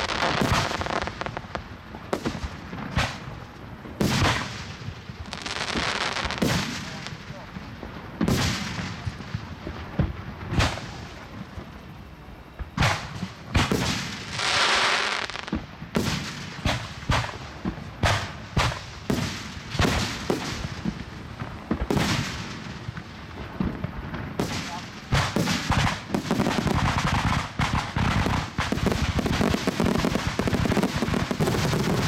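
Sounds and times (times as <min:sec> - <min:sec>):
firework hiss: 0:00.0 - 0:32.0
fireworks launching and bursting: 0:00.0 - 0:32.0.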